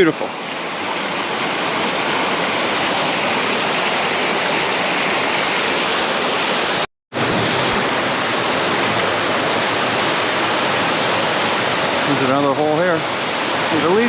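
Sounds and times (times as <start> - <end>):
mountain stream rushing over rocks: 0.0 - 14.0.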